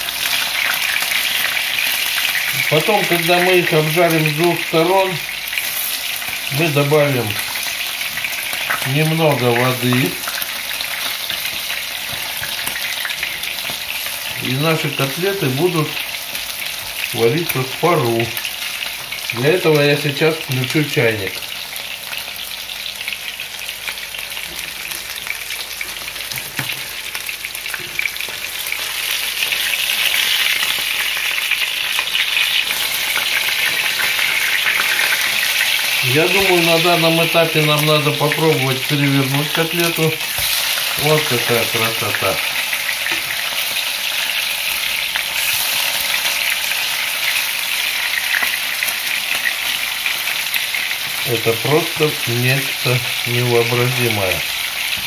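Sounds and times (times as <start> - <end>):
cutlets sizzling in oil: 0.0 - 55.0.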